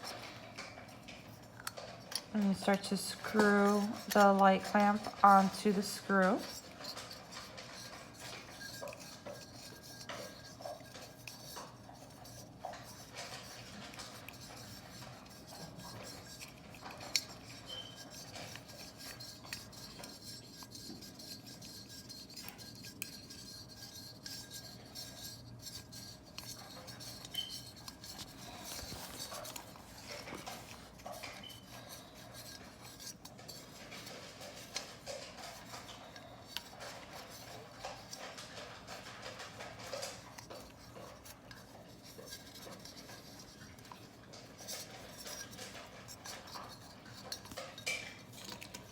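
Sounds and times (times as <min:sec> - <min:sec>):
small clicks and scrapes of clamp: 0:06.4 - 0:48.9.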